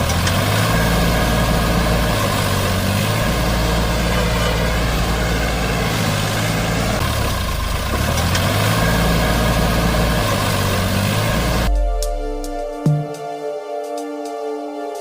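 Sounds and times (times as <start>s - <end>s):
tractor engine throbbing: 0.0s - 13.3s.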